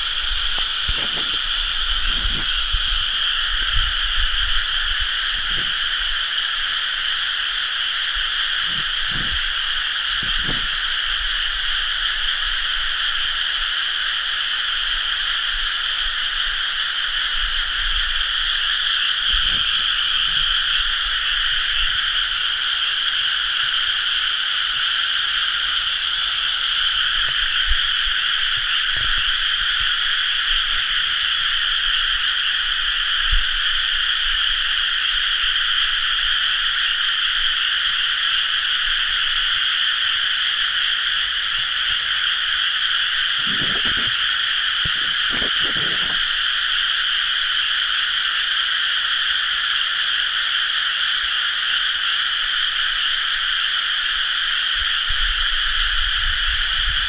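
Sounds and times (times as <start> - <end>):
chorus of frogs calling: 0.0 - 57.0.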